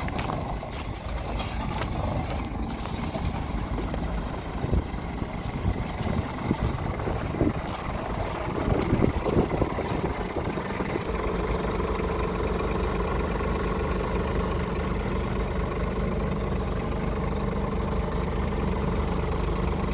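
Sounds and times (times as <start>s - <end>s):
diesel truck engine idling: 0.0s - 19.9s.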